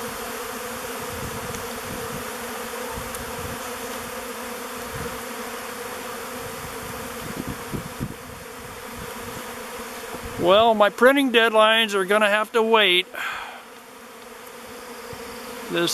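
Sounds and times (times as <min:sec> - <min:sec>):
bee swarm buzzing: 0:00.0 - 0:15.9.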